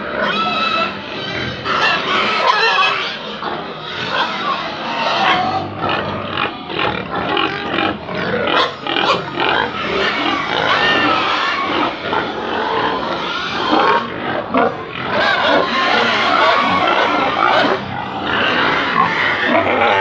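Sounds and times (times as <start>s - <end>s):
pigs grunting and squealing: 0.0s - 20.0s.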